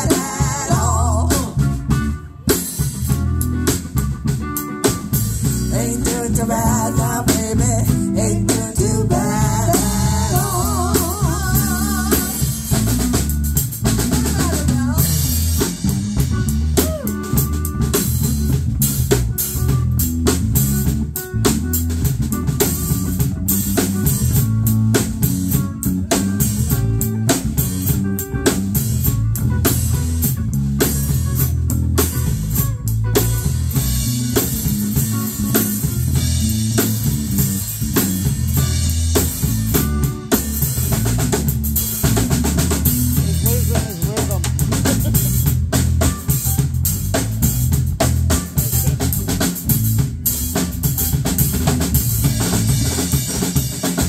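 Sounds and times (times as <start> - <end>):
bending electric guitar lead: 0.0 - 54.0
blues band instrumental: 0.0 - 54.0.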